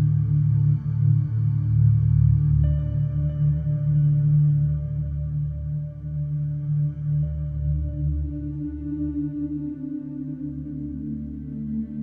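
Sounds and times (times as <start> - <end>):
slow ambient drone music: 0.0 - 12.0.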